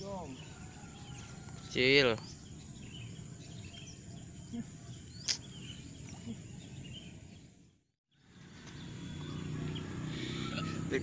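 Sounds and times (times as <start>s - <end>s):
small bird chirps: 0.2s - 10.6s.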